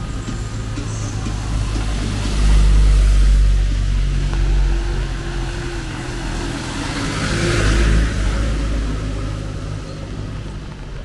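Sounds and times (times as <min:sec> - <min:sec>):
tyre hiss on wet street: 0:00.0 - 0:11.0
vehicle engine hum: 0:00.0 - 0:11.0.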